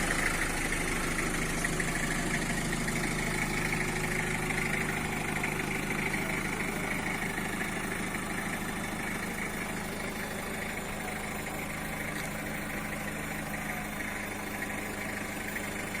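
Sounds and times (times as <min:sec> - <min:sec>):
minibus engine idling: 0:00.0 - 0:16.0.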